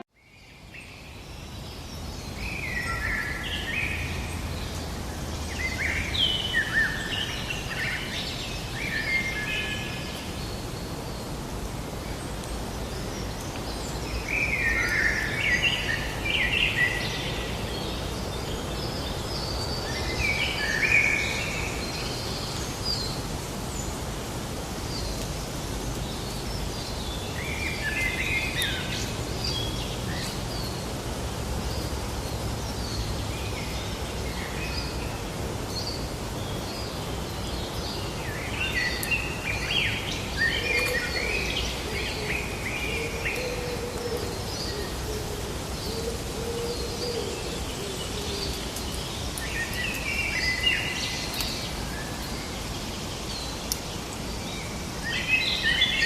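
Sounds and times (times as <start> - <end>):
low outdoor background noise: 0.0 - 56.0
songbirds chirping: 0.0 - 56.0.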